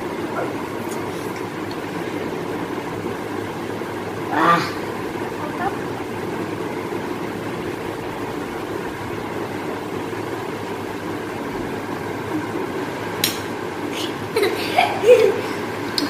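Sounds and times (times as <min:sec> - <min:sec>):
steady fan noise: 0:00.0 - 0:16.0.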